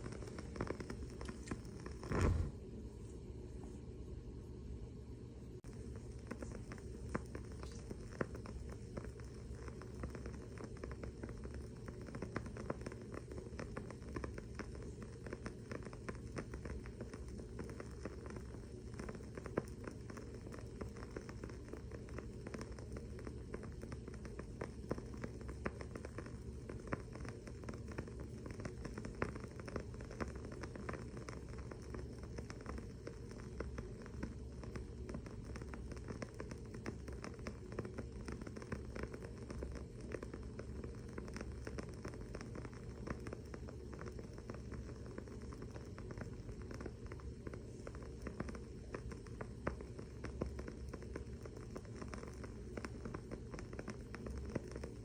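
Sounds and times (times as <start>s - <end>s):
candle wick popping: 0.0s - 2.6s, 5.7s - 55.0s
candle wick crackling: 0.0s - 3.9s, 5.6s - 55.0s
low steady hum: 0.0s - 55.0s.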